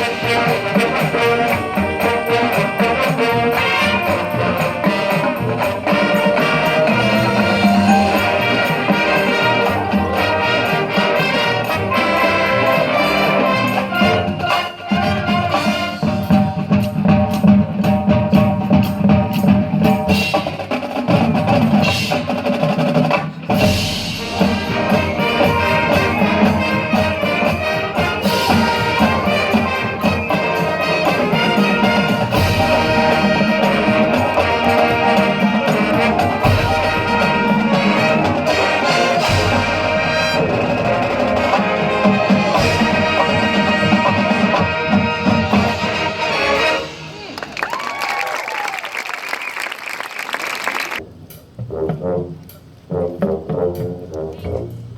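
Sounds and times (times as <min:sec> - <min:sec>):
trumpets and trombones: 0:00.0 - 0:47.6, 0:50.8 - 0:54.9
brass band playing: 0:00.0 - 0:48.0, 0:50.8 - 0:54.9
drums: 0:00.0 - 0:54.9.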